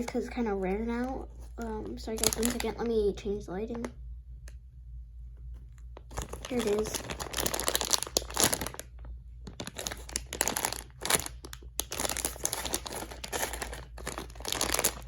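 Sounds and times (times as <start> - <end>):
packaging crinkling and rustling: 0.0 - 3.9, 5.6 - 15.0.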